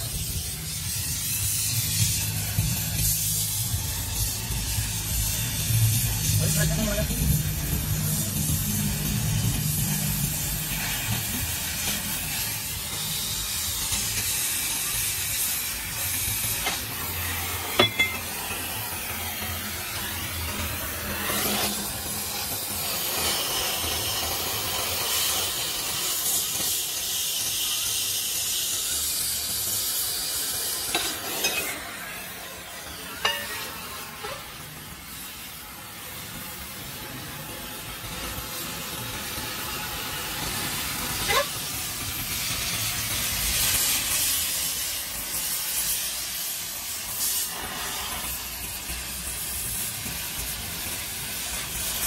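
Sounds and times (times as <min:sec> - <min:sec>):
cutting torch hissing: 0:00.0 - 0:52.0.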